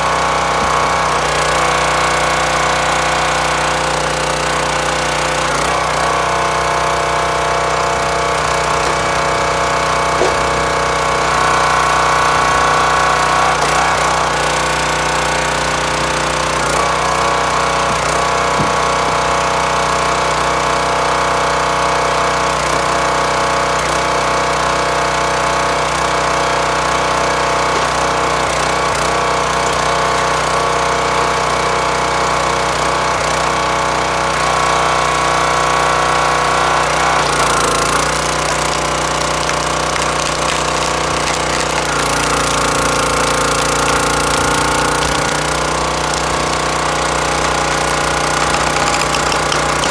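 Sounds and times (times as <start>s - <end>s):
small gas engine running: 0.0s - 49.9s.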